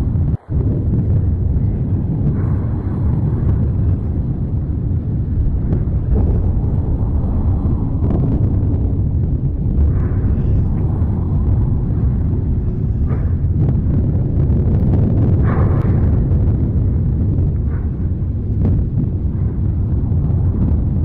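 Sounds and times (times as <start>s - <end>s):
volcanic blasts: 0.0s - 21.0s
volcano deep rumble: 0.0s - 21.0s.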